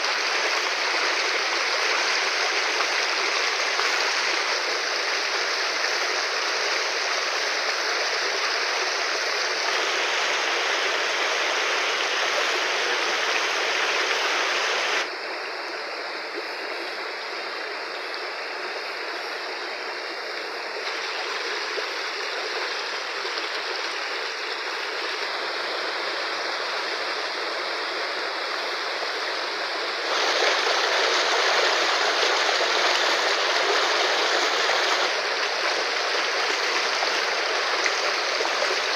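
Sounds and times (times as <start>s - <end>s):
river rushing: 0.0s - 15.2s, 20.9s - 38.9s.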